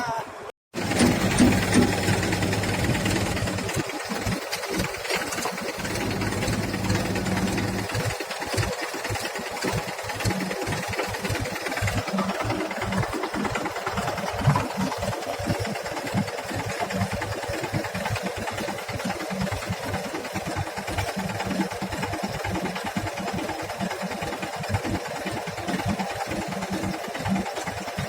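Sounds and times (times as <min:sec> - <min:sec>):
diesel engine knocking: 0:00.7 - 0:28.0.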